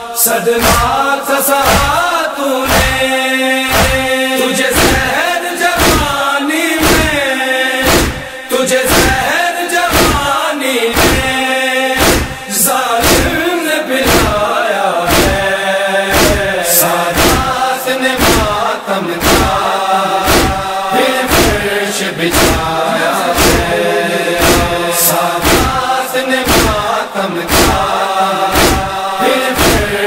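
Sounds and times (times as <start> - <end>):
group chanting in unison: 0.0 - 30.0
rhythmic chest-beating: 0.1 - 30.0.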